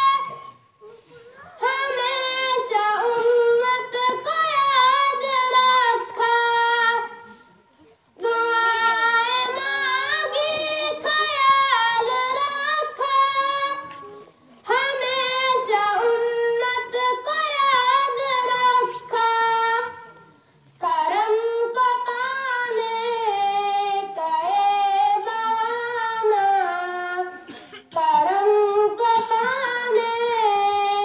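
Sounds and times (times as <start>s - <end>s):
child singing devotional poem: 0.0s - 0.6s, 1.4s - 7.4s, 8.2s - 20.2s, 20.8s - 31.0s.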